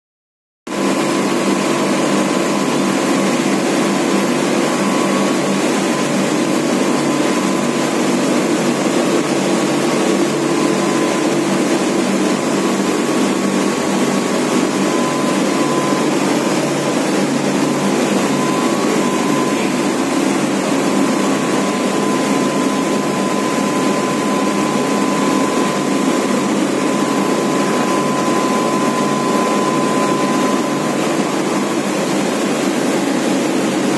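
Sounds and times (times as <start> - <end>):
industrial machinery hum: 0.7 - 33.9
thin steady whine: 0.7 - 33.9.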